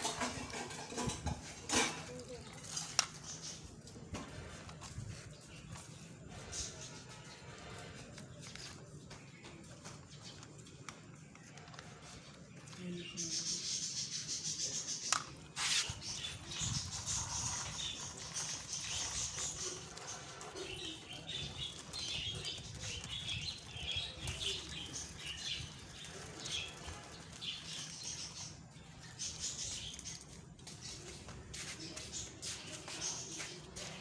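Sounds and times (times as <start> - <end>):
rustling and scraping: 0.0 - 34.0
small birds chirping: 0.0 - 34.0.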